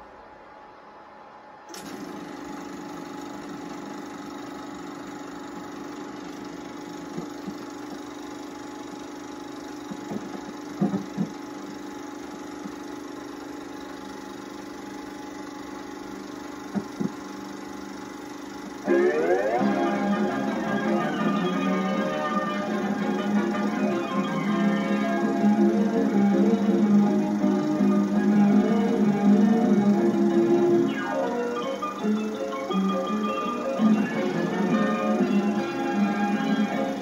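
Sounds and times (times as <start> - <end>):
film projector running: 1.7 - 37.0.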